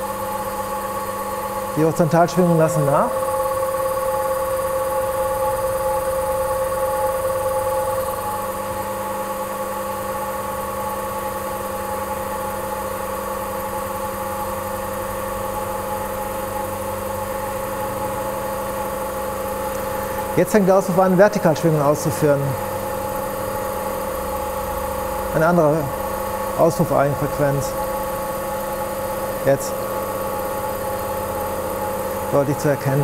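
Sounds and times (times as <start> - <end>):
road simulator mechanical hum: 0.0 - 33.0.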